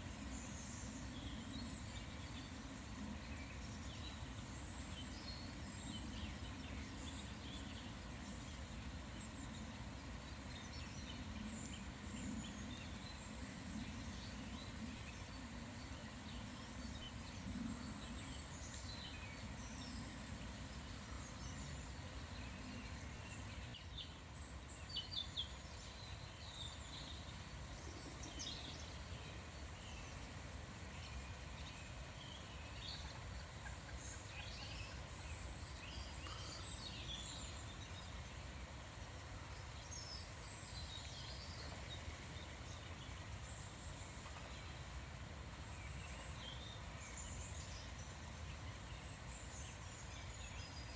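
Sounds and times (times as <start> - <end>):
small birds chirping: 0.1 - 45.0.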